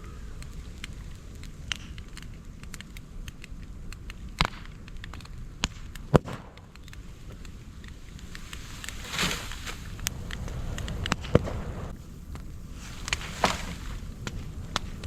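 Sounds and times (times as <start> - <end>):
bamboo fire crackling: 0.0 - 15.0
loud sharp pops: 0.4 - 15.0.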